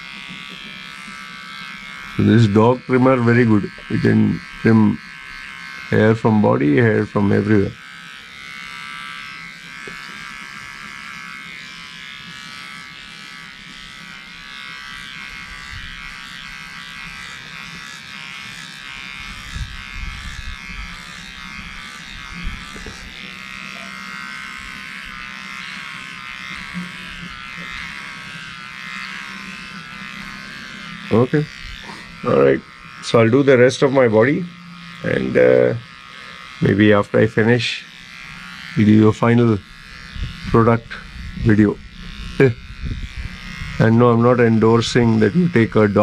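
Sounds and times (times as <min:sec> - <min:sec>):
electric hair trimmer buzzing: 0:00.0 - 0:46.0.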